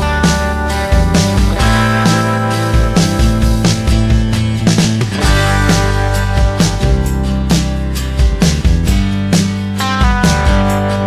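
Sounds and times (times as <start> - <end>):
instrumental music with plucked strings: 0.0 - 11.0.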